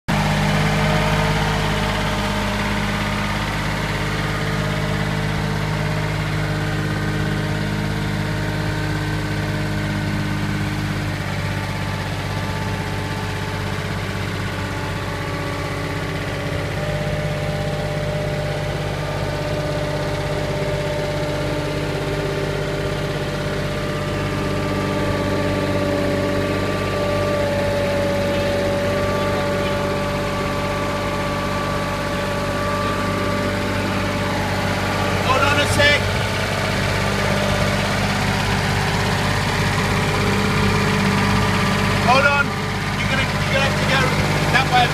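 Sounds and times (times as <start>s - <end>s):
skid steer engine running: 0.0s - 44.9s.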